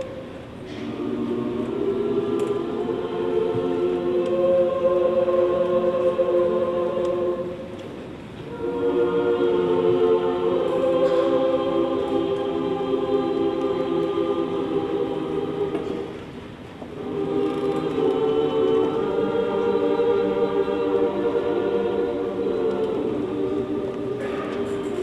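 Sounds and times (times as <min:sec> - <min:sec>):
choir singing held chords: 0:00.0 - 0:25.0.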